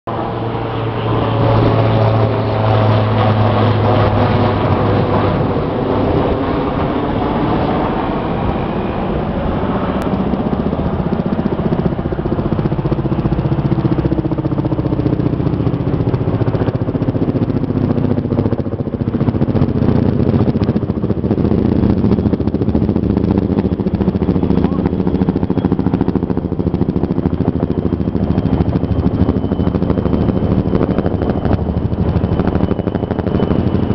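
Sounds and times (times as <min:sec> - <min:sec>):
helicopter rotor chop and engine drone: 0:00.0 - 0:33.9.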